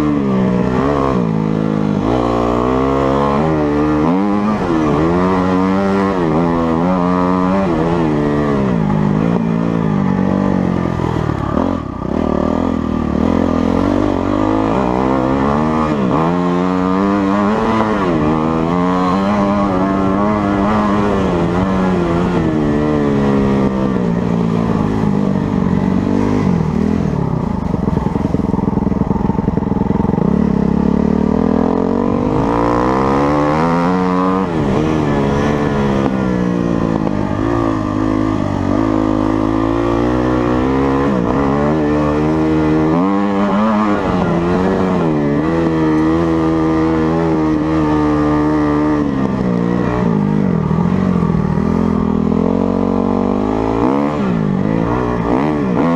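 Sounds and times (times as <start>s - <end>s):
motocross bike engine revving: 0.0s - 55.9s.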